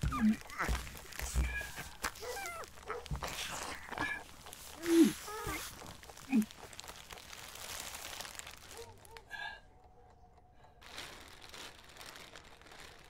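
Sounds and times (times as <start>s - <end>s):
plastic sheeting crinkling: 0.0s - 9.3s, 10.8s - 13.0s.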